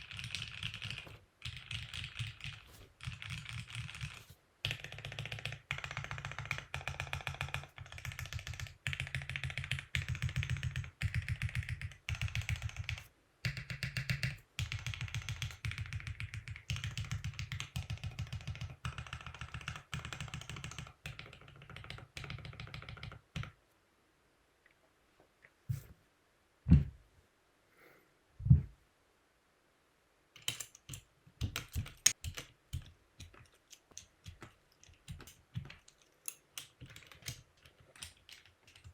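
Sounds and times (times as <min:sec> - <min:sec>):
typing on mechanical keyboard: 0:00.0 - 0:23.6, 0:30.4 - 0:38.9.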